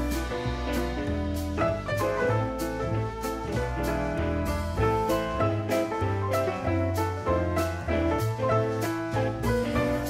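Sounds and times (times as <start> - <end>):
steady bass line: 0.0 - 10.0.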